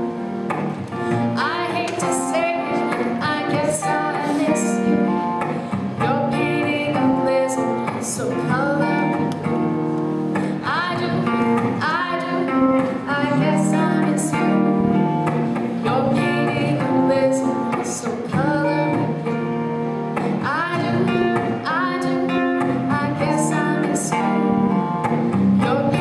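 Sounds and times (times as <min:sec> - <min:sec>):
strummed acoustic guitar: 0:00.0 - 0:26.0
person singing: 0:01.1 - 0:09.7, 0:10.4 - 0:15.0, 0:15.8 - 0:19.5, 0:20.4 - 0:26.0.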